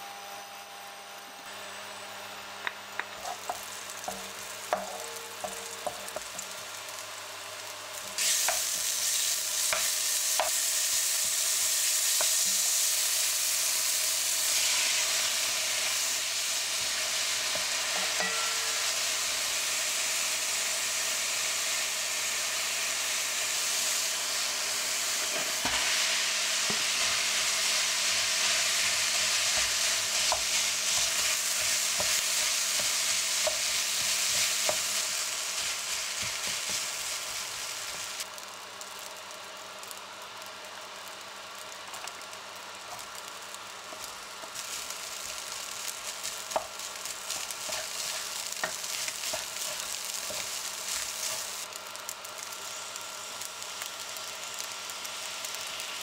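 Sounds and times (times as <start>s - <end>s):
food sizzling in a pan: 1.6s - 56.0s.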